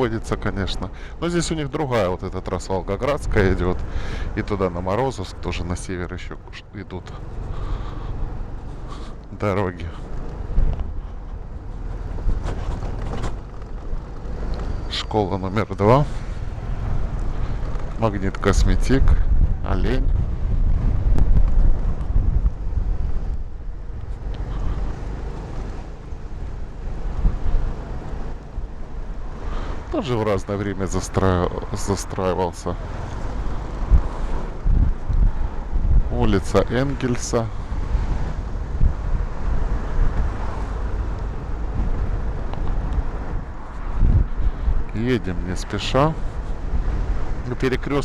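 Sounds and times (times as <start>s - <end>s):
car driving slowly rumble: 0.0s - 48.0s.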